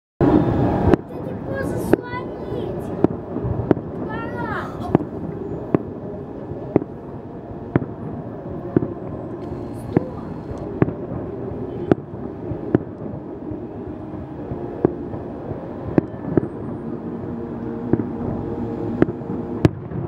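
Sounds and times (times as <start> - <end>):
fireworks bursting: 0.2 - 20.0
steady background noise: 0.2 - 20.0.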